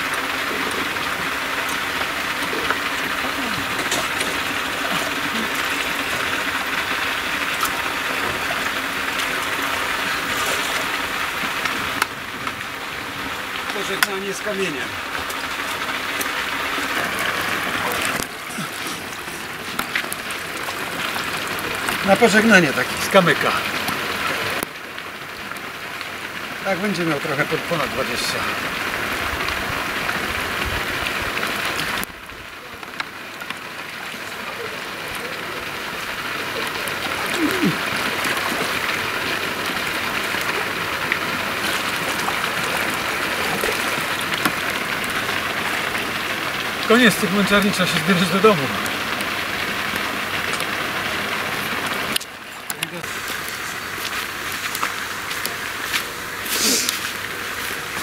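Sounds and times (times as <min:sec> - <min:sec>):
rain hissing on lake: 0:00.0 - 0:58.0
water splashing and running: 0:00.0 - 0:58.0.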